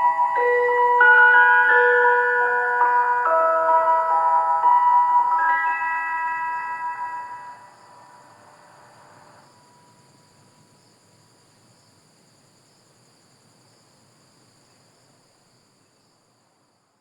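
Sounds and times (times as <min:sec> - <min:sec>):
crickets and insects chirping: 0:00.0 - 0:17.0.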